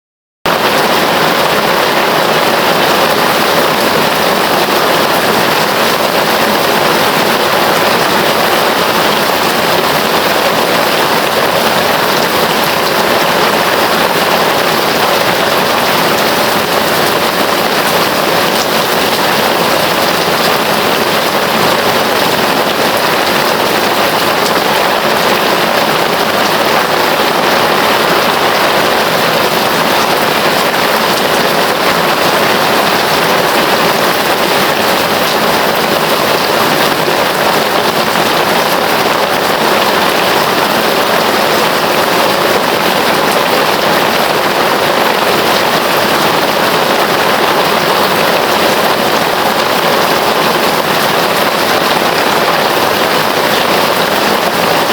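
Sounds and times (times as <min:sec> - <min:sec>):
heavy rain hissing: 0:00.5 - 0:54.9.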